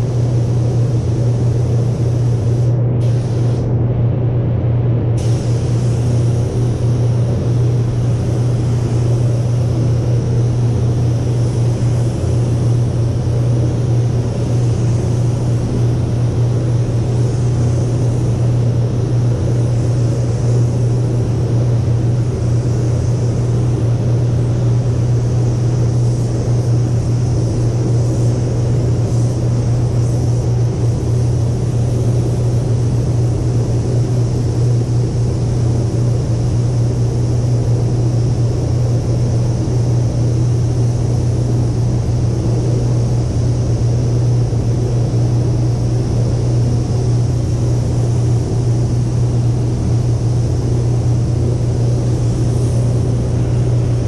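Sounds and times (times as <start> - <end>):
ventilation fans humming: 0.0 - 54.0.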